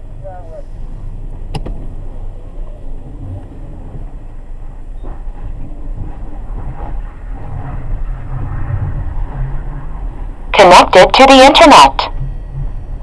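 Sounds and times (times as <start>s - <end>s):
car engine and tyres rumbling: 0.0s - 10.6s, 11.3s - 13.0s.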